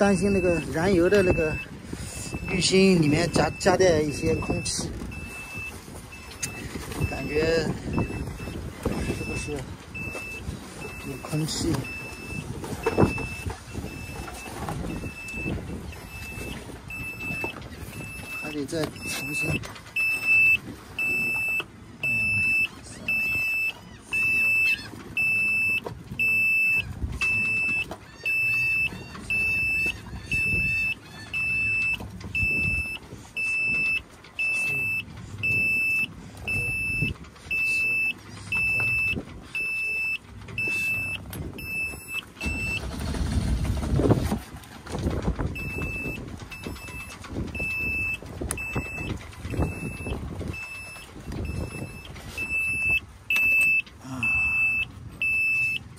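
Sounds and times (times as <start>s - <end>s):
engine panel alarm beeping: 0.0s - 44.3s, 45.0s - 55.9s.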